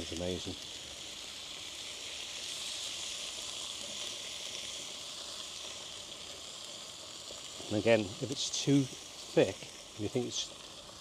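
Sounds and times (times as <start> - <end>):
food sizzling on a hot griddle: 0.0 - 11.0.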